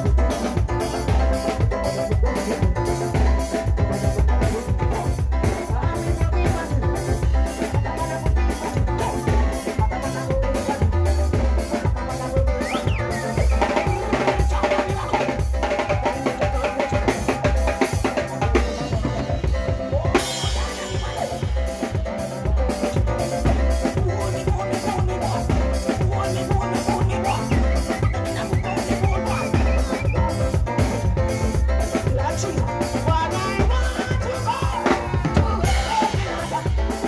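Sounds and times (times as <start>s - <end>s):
live band music: 0.0s - 37.0s.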